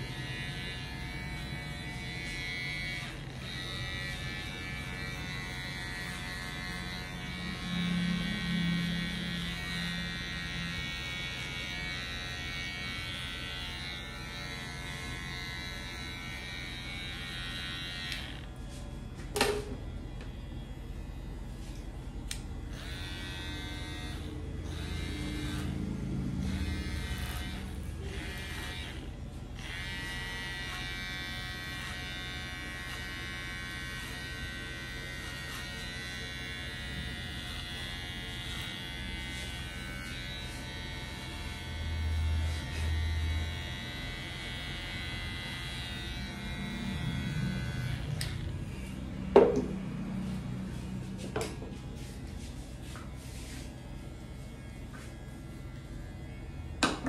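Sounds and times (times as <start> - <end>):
electric hair clipper buzzing: 0.0 - 57.0.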